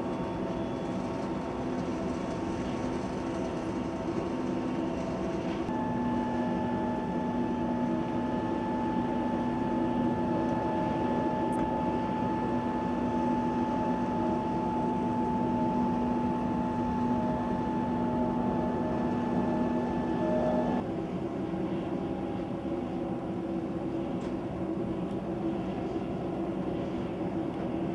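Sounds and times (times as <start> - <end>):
jet airliner drone: 0.0 - 27.9.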